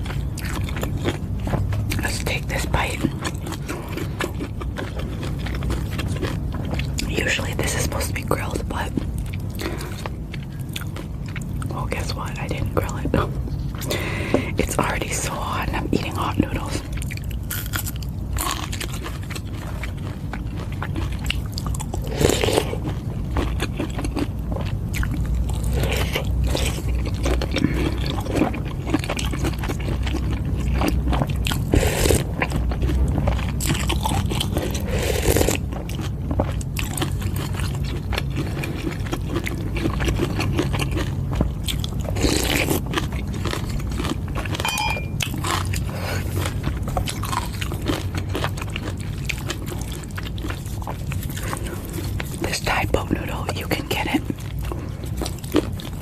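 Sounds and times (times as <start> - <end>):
chewing and biting: 0.0 - 56.0.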